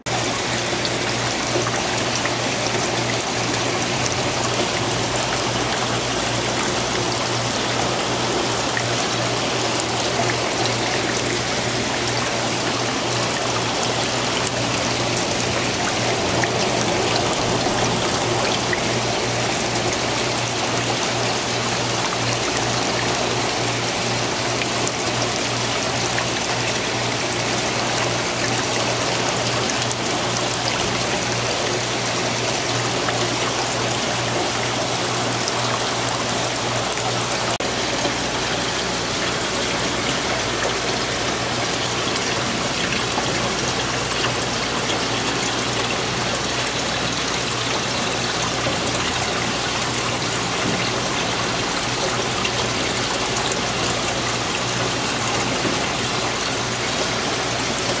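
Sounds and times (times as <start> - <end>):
pump hum: 0.0 - 58.0
aquarium water trickling: 0.1 - 58.0.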